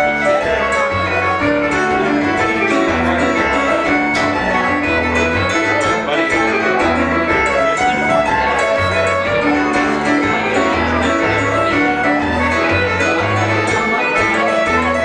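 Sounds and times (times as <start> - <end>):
bass line: 0.0 - 15.0
chorded accompaniment: 0.0 - 15.0
fiddle playing quick notes: 0.0 - 15.0.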